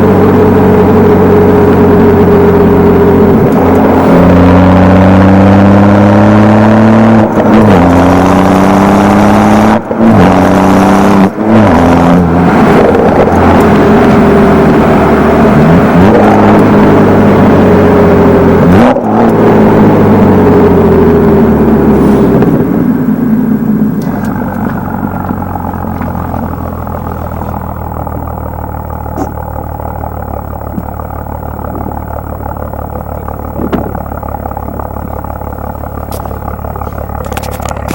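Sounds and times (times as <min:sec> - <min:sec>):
car engine accelerating hard: 0:00.0 - 0:37.9.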